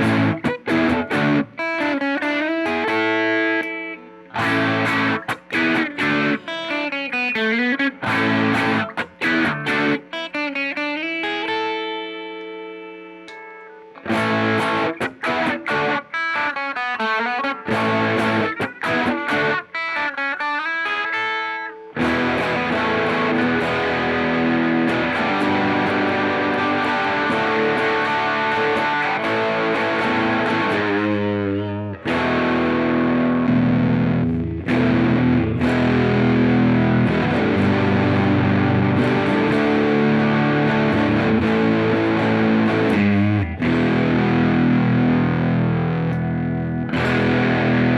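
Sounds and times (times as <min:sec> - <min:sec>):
distorted electric guitar chords: 0:00.0 - 0:47.9
electric guitar picked notes: 0:00.0 - 0:47.9.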